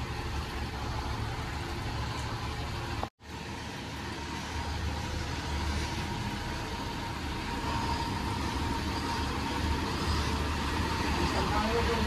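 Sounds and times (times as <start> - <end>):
engine rumble: 0.0 - 12.0
tyre road noise hiss: 0.0 - 12.0.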